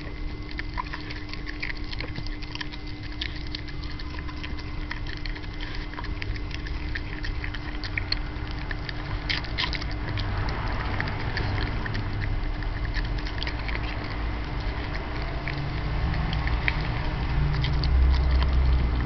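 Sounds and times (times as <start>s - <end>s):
dog chewing and lapping: 0.0s - 19.0s
steady low hum: 0.0s - 19.0s.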